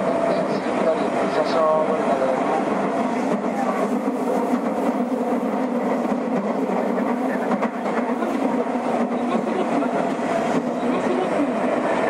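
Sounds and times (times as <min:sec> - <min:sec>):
train wheel and rail rumble: 0:00.0 - 0:12.0.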